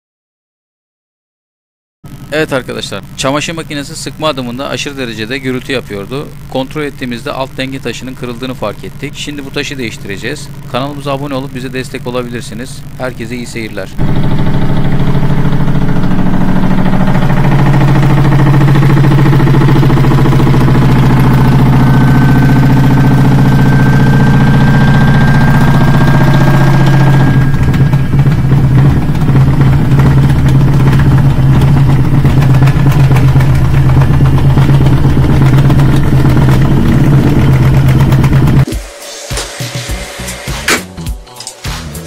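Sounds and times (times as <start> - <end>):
washing machine spinning: 2.1 - 42.0.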